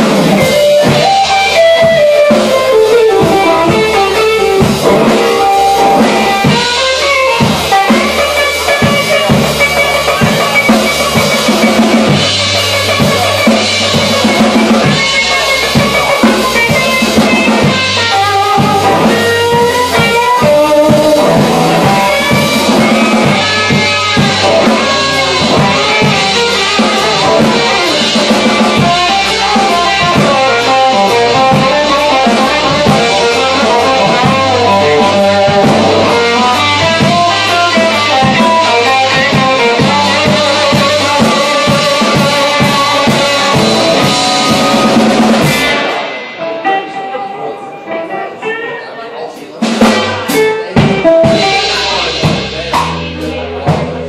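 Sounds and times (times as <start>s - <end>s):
blues band playing: 0.0s - 54.0s
electric guitar lines: 0.0s - 54.0s.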